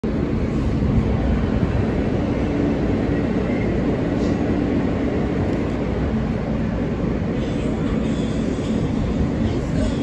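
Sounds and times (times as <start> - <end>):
low propulsion hum: 0.0 - 9.6
subway wheels rumbling on rails: 0.0 - 10.0.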